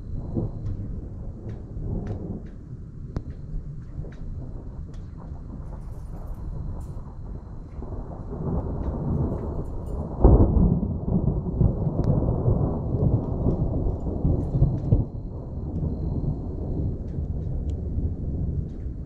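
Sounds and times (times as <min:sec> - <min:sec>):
rolling thunder rumble: 0:00.0 - 0:19.0
thunder clap: 0:00.0 - 0:19.0.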